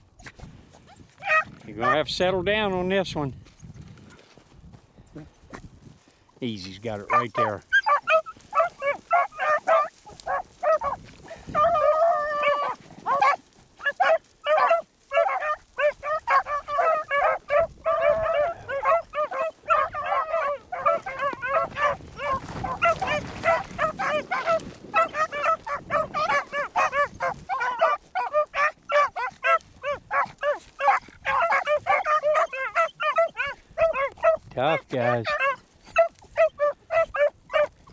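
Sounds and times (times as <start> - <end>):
hounds baying and barking: 0.1 - 2.9, 6.4 - 37.9.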